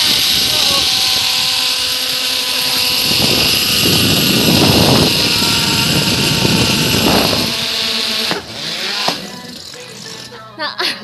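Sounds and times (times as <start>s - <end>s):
zipline pulleys whirring on cable: 0.0s - 10.6s.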